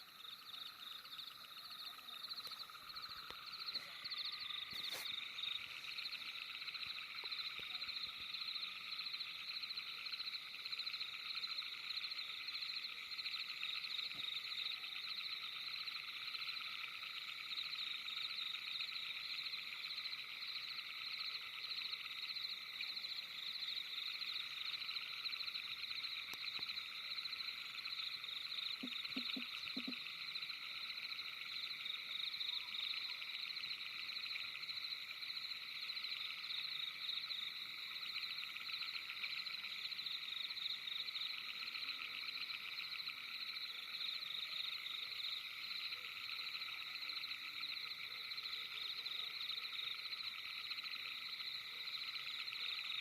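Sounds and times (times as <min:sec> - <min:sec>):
night chorus of trilling animals: 0:00.0 - 0:53.0.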